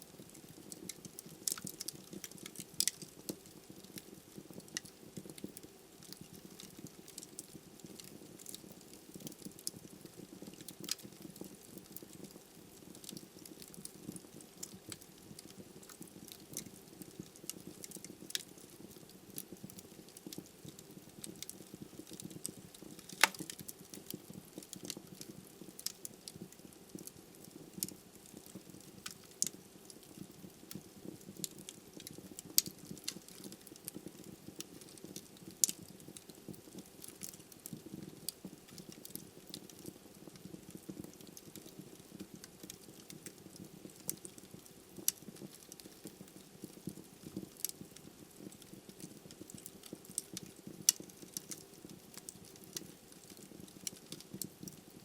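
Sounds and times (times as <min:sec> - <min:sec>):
wood crackling and popping: 0:00.0 - 0:55.0
flames rumbling in fireplace: 0:00.1 - 0:55.0.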